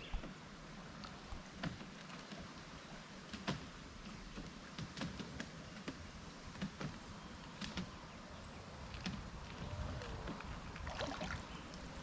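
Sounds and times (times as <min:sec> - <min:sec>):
water lapping and trickling: 0:00.0 - 0:12.0.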